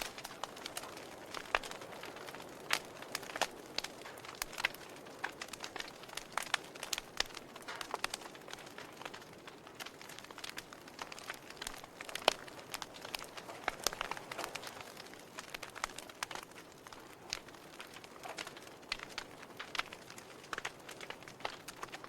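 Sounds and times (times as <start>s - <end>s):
hiss of burning: 0.0s - 22.0s
sharp pops and snaps: 0.0s - 22.0s
wood fire crackling: 0.0s - 22.0s.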